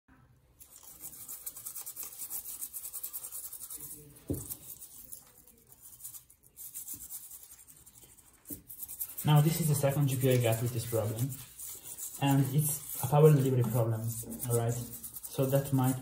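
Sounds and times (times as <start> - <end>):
toothbrush scrubbing circuit board: 0.6 - 16.0.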